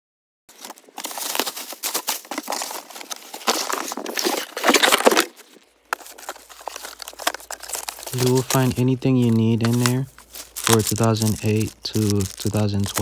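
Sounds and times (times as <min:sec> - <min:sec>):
cardboard box being opened: 0:00.6 - 0:13.0.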